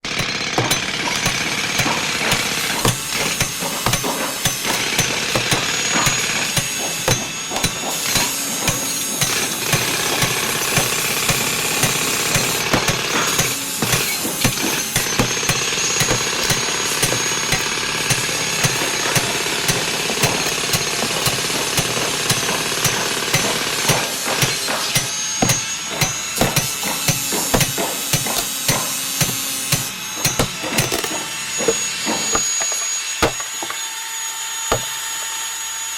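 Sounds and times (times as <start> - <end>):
hammer blows and knocks: 0.0 - 33.8, 34.7 - 35.0.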